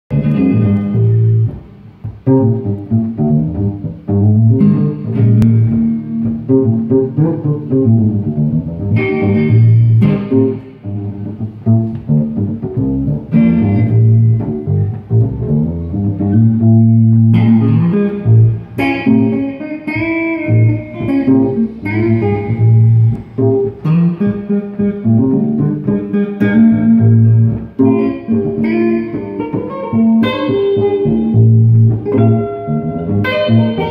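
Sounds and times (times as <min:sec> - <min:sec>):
electric bass playing: 0:00.1 - 0:33.9
electric guitar playing: 0:00.1 - 0:33.9.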